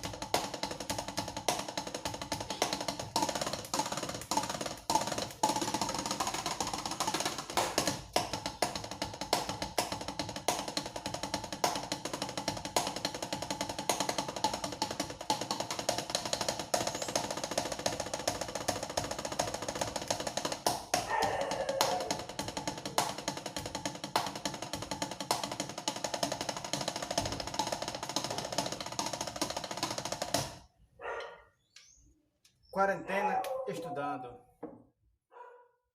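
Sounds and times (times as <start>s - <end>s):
drum roll with sticks: 0.0s - 30.6s.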